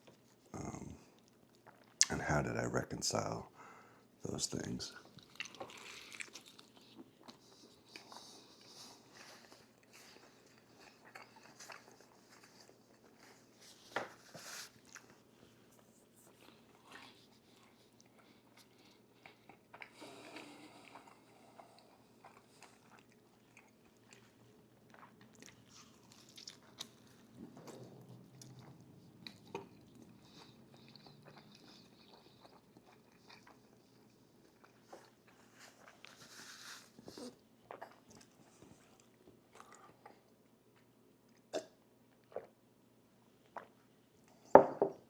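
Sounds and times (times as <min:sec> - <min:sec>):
close chewing and crunching: 0:00.0 - 0:02.2, 0:04.6 - 0:41.5.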